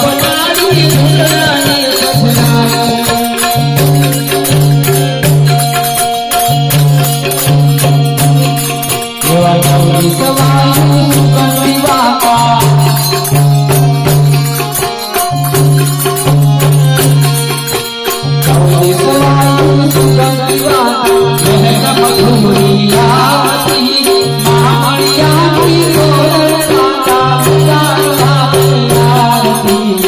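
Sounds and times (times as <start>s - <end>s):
fast jingling percussion: 0.0s - 30.0s.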